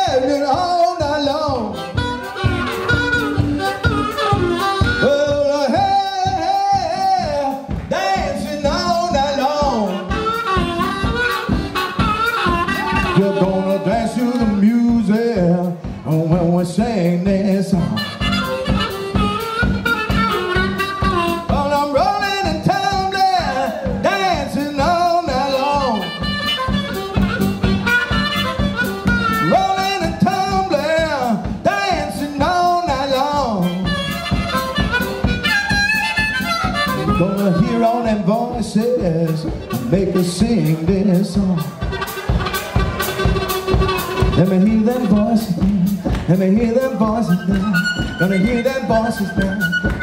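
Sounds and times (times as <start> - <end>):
bass guitar: 0.0 - 50.0
drum kit beat: 0.0 - 50.0
electric guitars: 0.0 - 50.0
harmonica lead: 0.0 - 50.0.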